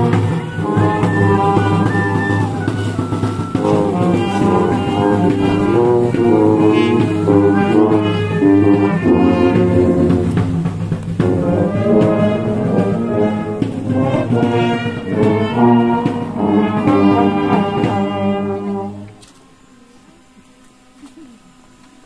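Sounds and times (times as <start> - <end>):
brass band playing: 0.0 - 19.3.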